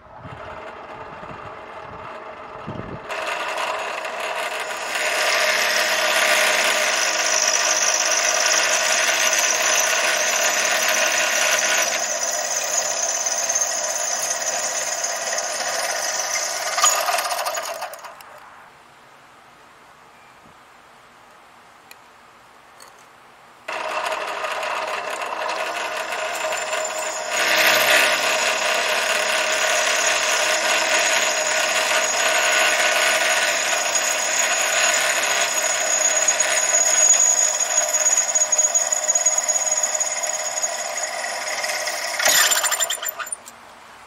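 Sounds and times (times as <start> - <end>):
drill press whining: 0.0 - 18.3, 23.7 - 43.5.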